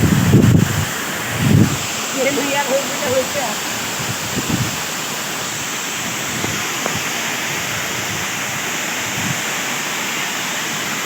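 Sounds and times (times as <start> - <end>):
waterfall crashing: 0.0 - 11.0.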